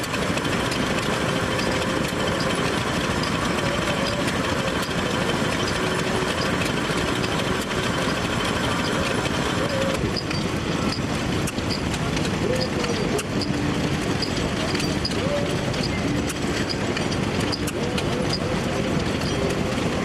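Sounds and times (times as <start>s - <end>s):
engine running with rough rumble: 0.0s - 20.0s.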